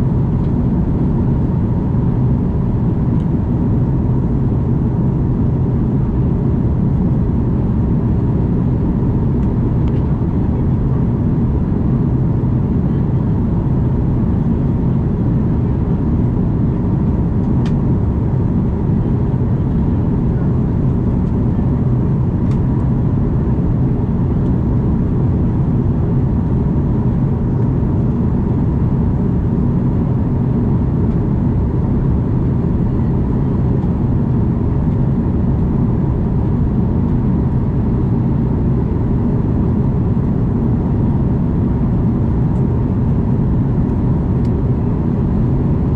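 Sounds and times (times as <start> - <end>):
airliner cabin engine roar: 0.0 - 45.9.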